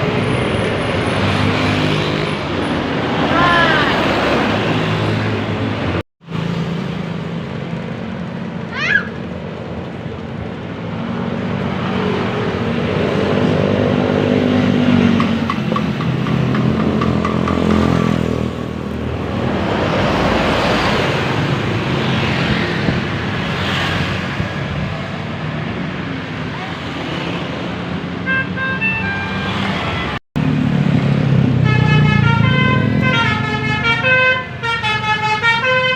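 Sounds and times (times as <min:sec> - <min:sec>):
vehicles passing close: 0:00.0 - 0:35.9.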